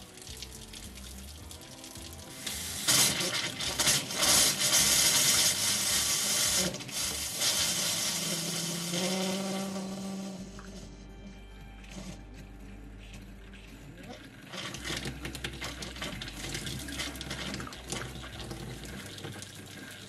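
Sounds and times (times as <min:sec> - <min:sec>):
faucet running and spitting air: 0:00.0 - 0:10.9, 0:14.4 - 0:20.0
background music: 0:00.0 - 0:20.0.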